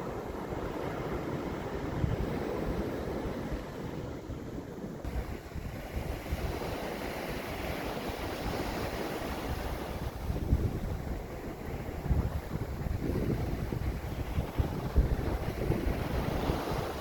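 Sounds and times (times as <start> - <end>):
surf washing on shore: 0.0 - 17.0
wind gusting on microphone: 0.0 - 17.0.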